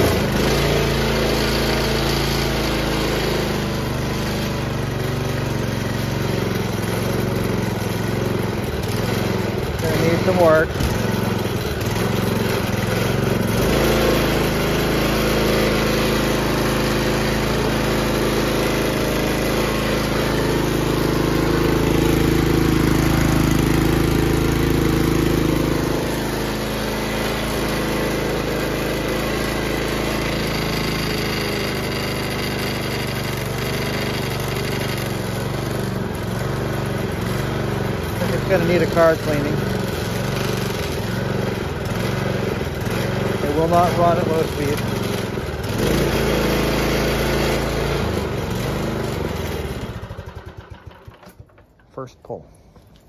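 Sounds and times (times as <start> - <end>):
lawn mower engine running: 0.0 - 53.0.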